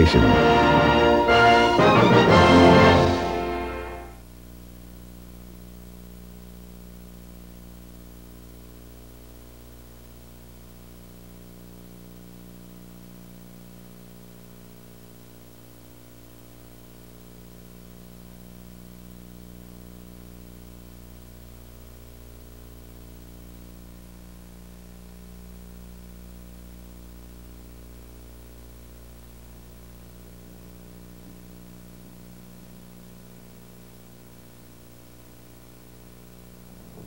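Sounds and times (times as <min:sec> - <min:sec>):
low electrical hum: 0:00.0 - 0:37.0
tape hiss: 0:00.0 - 0:37.0.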